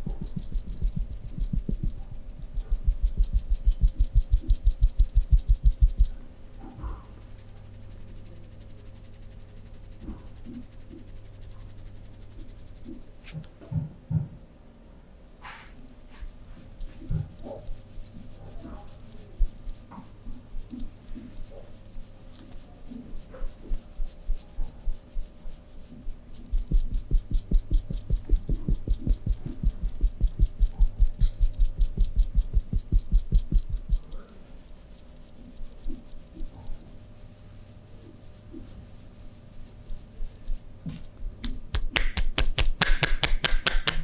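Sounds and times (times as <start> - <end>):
skin rubbing: 0.0 - 13.5, 16.0 - 44.0
fast even pats: 0.0 - 14.2, 15.5 - 36.8, 38.0 - 44.0.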